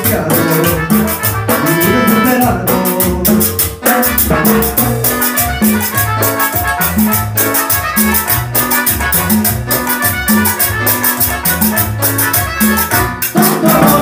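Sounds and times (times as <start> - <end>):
hand percussion: 0.0 - 14.0
salsa band playing: 0.0 - 14.0.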